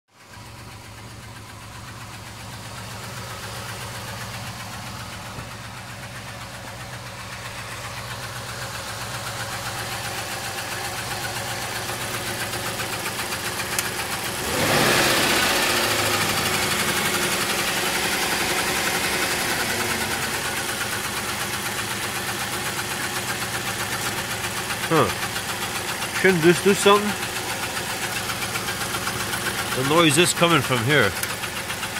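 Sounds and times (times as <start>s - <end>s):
car engine idling roughly: 0.1s - 31.9s.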